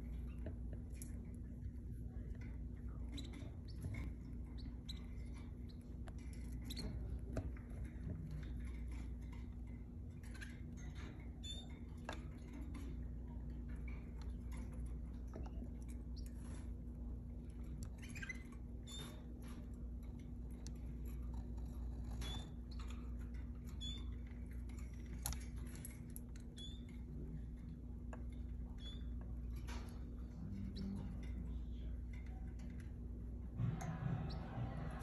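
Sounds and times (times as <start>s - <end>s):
canaries peeping: 0.0s - 35.0s
steady low hum: 0.0s - 35.0s.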